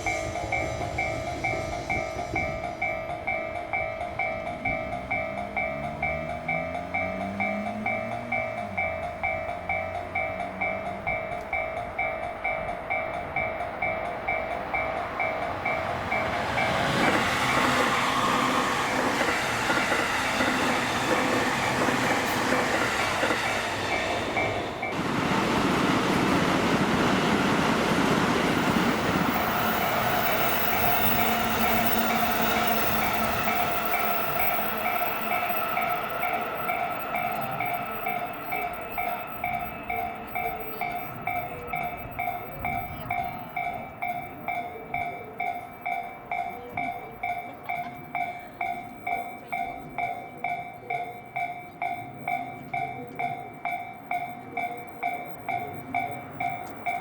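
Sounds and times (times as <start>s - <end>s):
level-crossing alarm ringing: 0.0s - 57.0s
passing train rumble and clatter: 0.0s - 57.0s.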